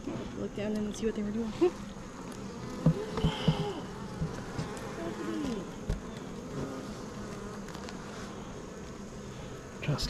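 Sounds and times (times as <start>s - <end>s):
bees flying past microphone: 0.0s - 10.0s
honeybees buzzing: 0.0s - 10.0s.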